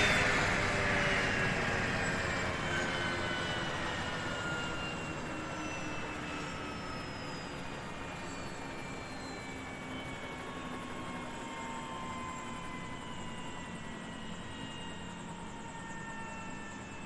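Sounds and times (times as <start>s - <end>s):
helicopter turbine winding down: 0.0s - 17.0s.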